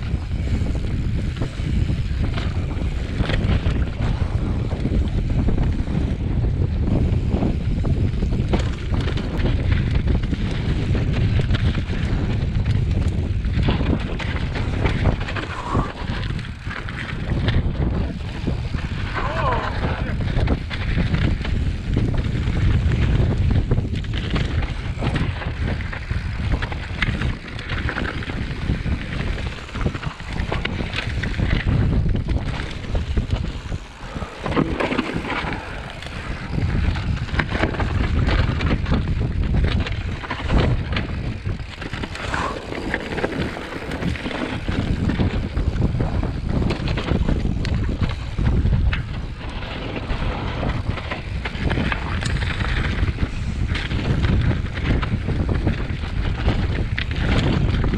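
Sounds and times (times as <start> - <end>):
bike rattling: 0.0 - 57.9
tyres rolling on stony trail: 0.0 - 57.9
wind buffeting microphone: 0.0 - 57.9.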